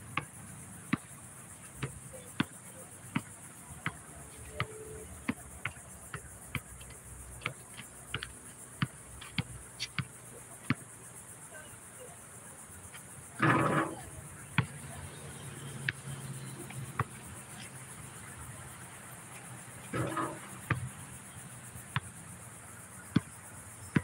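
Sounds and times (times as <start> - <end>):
high insect hiss: 0.0 - 24.0
basketball bouncing on asphalt: 0.2 - 11.0, 12.9 - 18.6, 19.8 - 22.2, 23.1 - 24.0.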